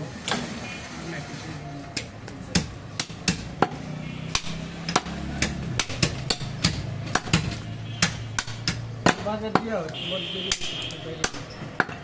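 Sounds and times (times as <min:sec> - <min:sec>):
cleaver chopping meat and bone: 0:02.0 - 0:12.0.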